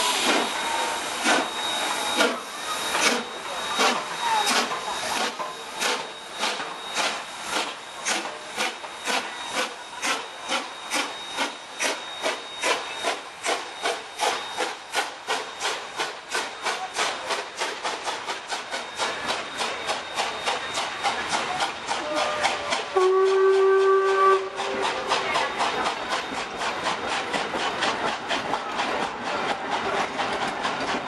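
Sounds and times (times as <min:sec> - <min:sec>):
hiss of steam: 0:00.0 - 0:31.0
steam locomotive chuffing: 0:00.0 - 0:31.0.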